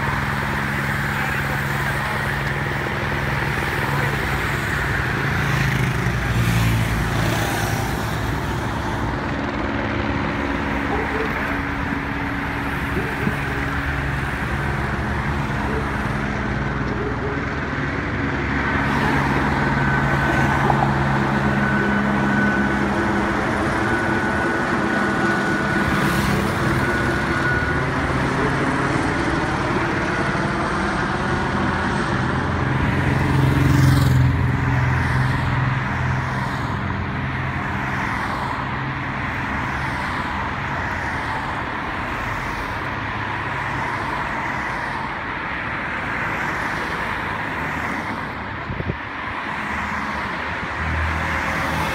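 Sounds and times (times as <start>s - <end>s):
cars driving past: 0.0s - 51.9s.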